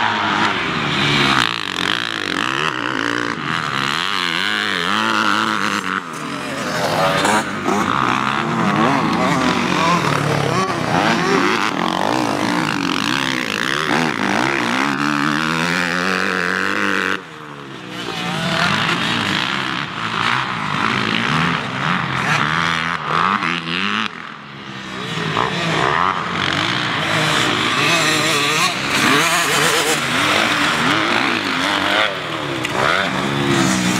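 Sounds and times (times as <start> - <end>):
motocross bike revving: 0.0 - 33.9.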